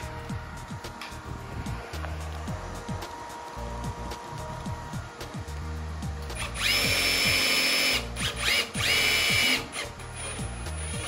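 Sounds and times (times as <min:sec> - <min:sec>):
cordless drill whining: 0:00.0 - 0:11.0.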